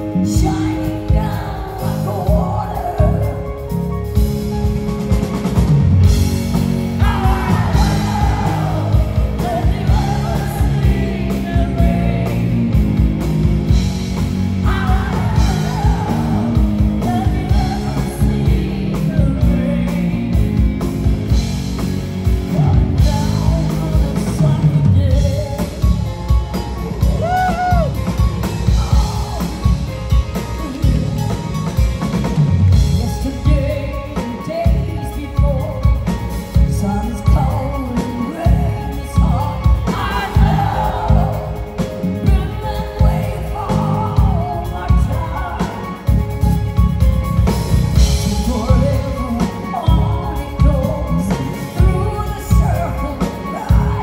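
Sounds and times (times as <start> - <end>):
woman singing: 0.0 - 3.9, 7.0 - 13.1, 14.6 - 20.9, 22.2 - 32.1, 32.7 - 54.0
live rock band playing: 0.0 - 54.0.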